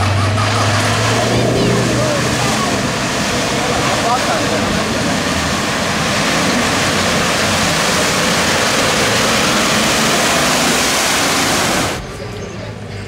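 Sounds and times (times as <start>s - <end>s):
water and mud splashing: 0.0s - 12.3s
engine running under load: 0.0s - 13.0s.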